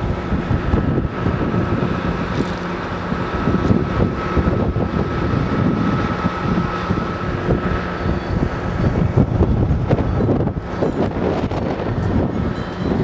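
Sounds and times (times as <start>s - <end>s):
steady mechanical hum: 0.0s - 13.0s
wind buffeting microphone: 0.0s - 13.0s.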